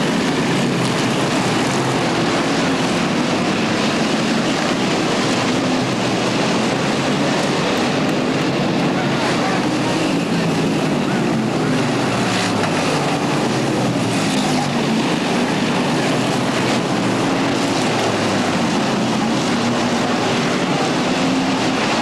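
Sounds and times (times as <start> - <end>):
stock car engines racing: 0.0 - 22.0.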